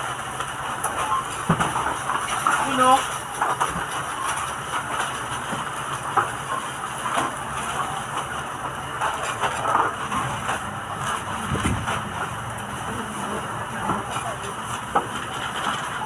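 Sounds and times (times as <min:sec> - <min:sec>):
goods clattering at checkout: 0:00.0 - 0:16.0
grocery store din: 0:00.0 - 0:16.0.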